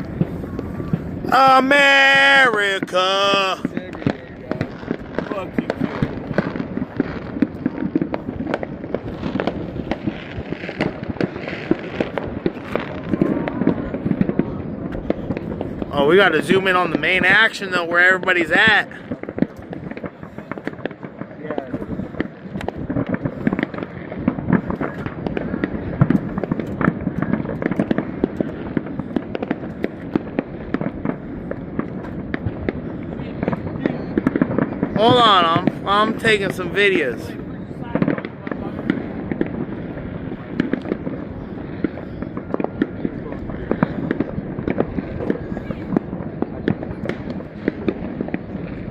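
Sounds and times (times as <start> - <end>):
firecracker crackle: 0.0 - 48.9
firework pops and bangs: 0.0 - 48.9.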